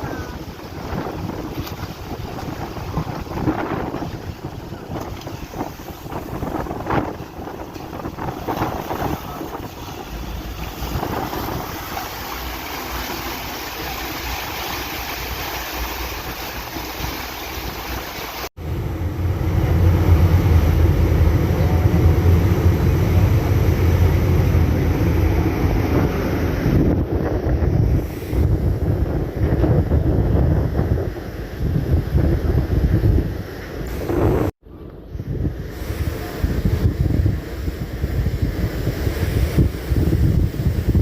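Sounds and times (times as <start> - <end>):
rush of boat and sea: 0.0 - 41.0
wind buffeting microphone: 0.0 - 41.0.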